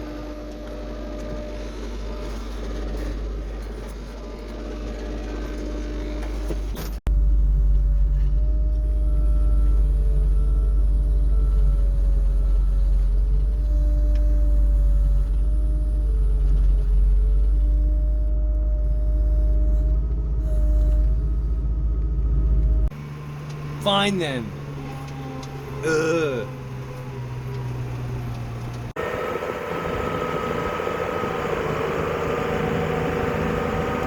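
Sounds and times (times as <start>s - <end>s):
engine running with low rumble: 0.0s - 34.0s.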